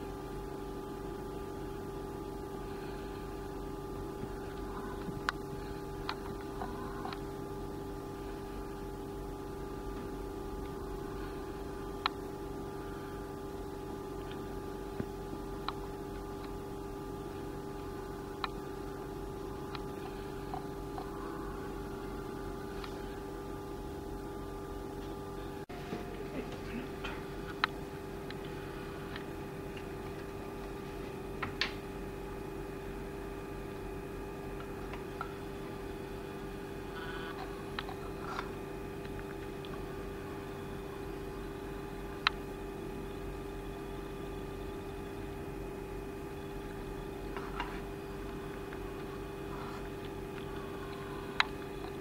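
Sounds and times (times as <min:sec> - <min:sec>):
electrical hum of lab equipment: 0:00.0 - 0:52.0.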